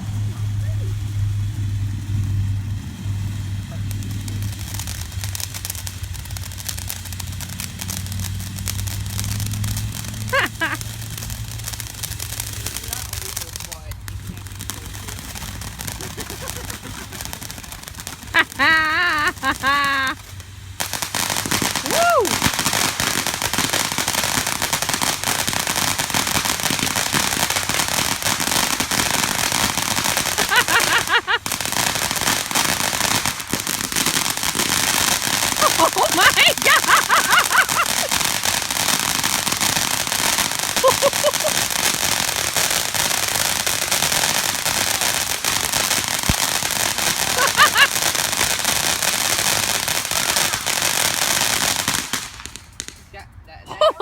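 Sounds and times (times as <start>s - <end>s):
fireworks crackling bangs: 0.0s - 53.2s.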